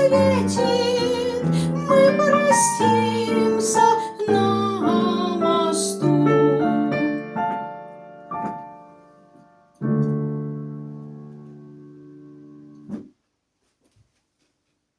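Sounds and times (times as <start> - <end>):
electric keyboard piano chords: 0.0 - 13.1.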